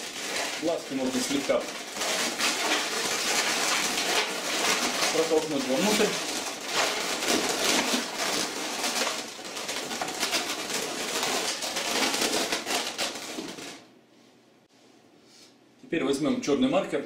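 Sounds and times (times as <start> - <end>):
balloons squeaking and rubbing: 0.0 - 13.9.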